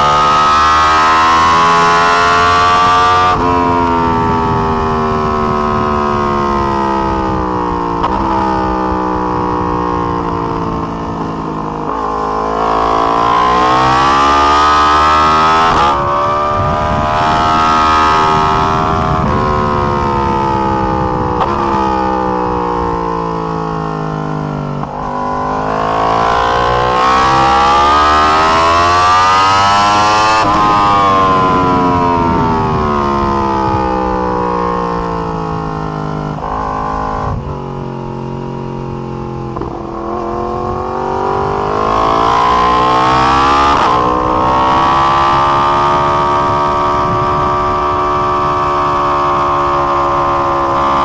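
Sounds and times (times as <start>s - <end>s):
motorcycle engine revving through gears: 0.0s - 51.0s.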